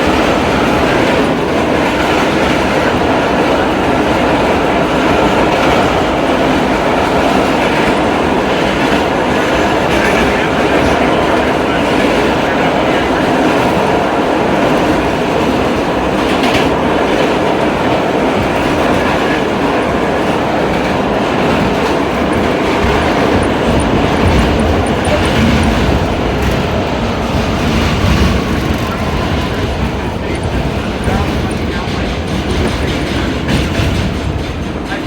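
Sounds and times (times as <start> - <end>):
subway car wheels rumbling on rail: 0.0 - 35.0.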